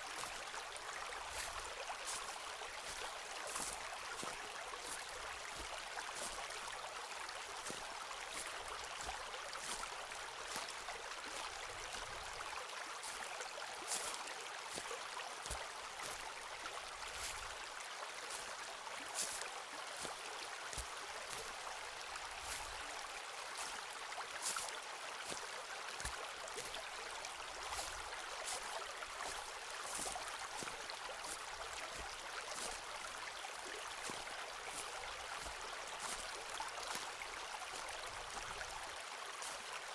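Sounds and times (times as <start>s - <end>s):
stream flowing: 0.0s - 39.9s
footsteps crunching on forest path: 0.1s - 39.6s.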